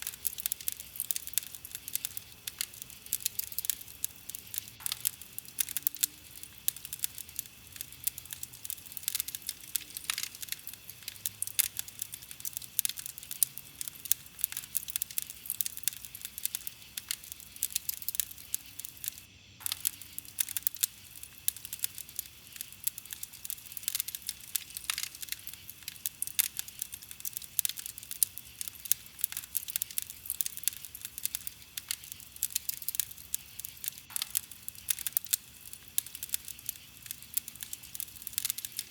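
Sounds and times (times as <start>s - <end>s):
burning wood crackling: 0.0s - 38.9s.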